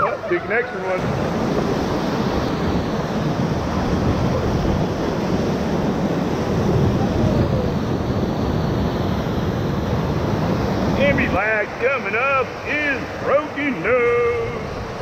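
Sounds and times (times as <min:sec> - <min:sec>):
whitewater rapids rushing: 0:00.0 - 0:08.2, 0:08.8 - 0:15.0
wind noise on microphone: 0:00.0 - 0:15.0.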